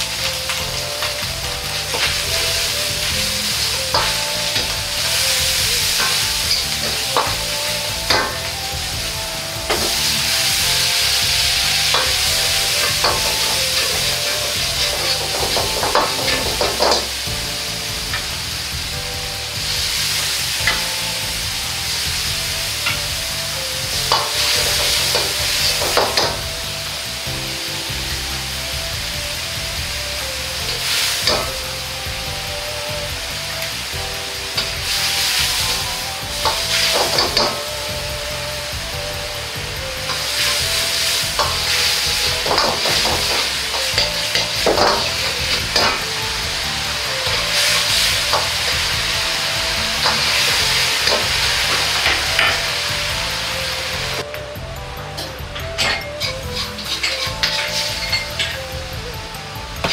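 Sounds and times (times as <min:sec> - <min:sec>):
meat sizzling in a wok: 0:00.0 - 0:59.9.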